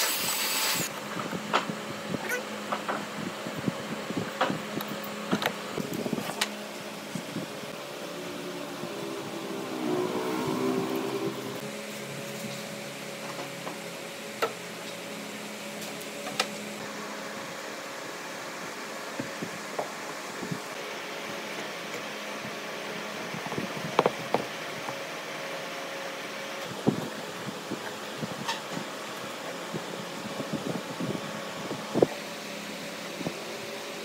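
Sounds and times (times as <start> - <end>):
workshop machine humming: 0.0 - 34.0.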